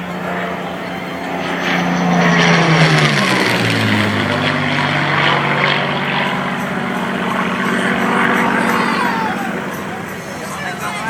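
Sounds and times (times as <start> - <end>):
propeller plane engine flyby: 0.0 - 11.0.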